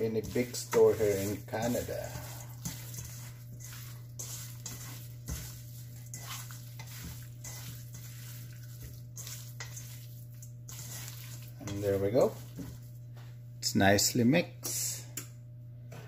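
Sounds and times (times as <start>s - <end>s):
gritty scrapes on metal bowl: 0.0s - 12.9s
steady low hum: 0.0s - 16.0s.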